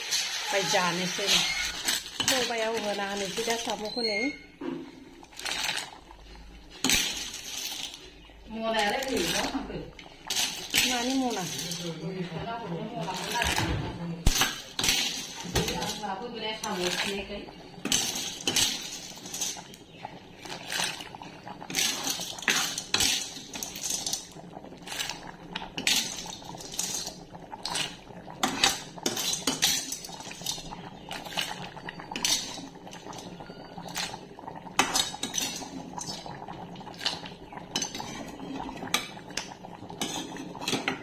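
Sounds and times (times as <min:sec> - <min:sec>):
curry bubbling in a pan: 0:00.0 - 0:41.0.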